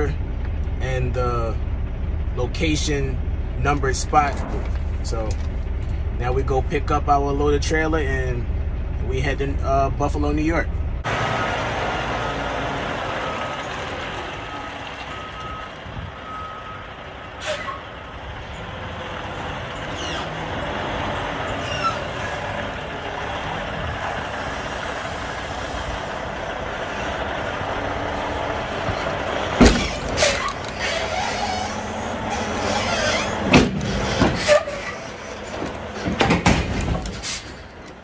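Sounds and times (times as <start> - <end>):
diesel truck engine running: 0.0 - 38.0.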